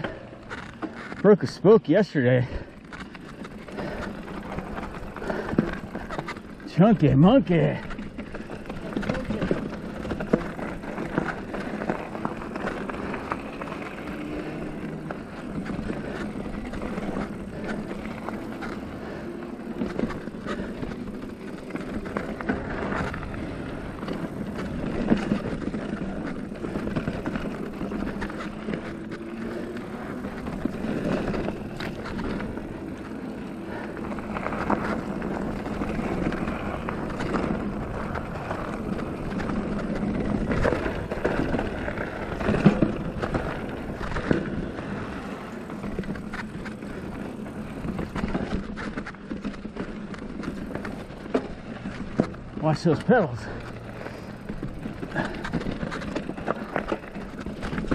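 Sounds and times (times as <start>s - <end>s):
bike tyres on loose rock: 0.0s - 57.9s
bike knocking and clattering: 2.5s - 57.9s.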